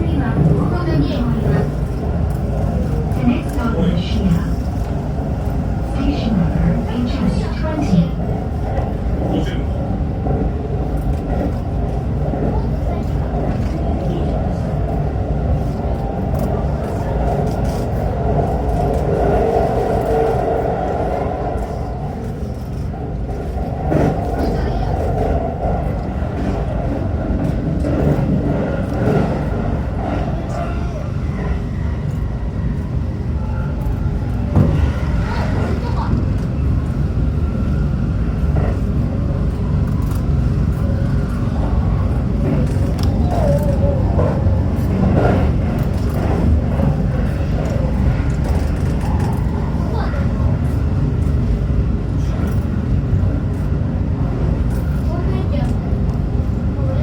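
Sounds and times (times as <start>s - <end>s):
train wheel and track rumble: 0.0s - 57.0s.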